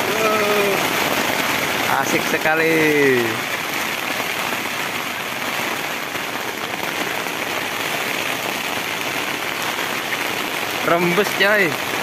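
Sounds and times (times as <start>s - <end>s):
heavy rain on a tent: 0.0s - 12.0s.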